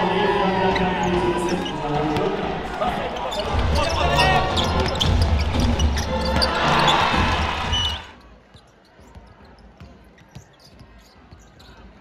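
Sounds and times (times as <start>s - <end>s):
arena crowd din: 0.0s - 12.0s.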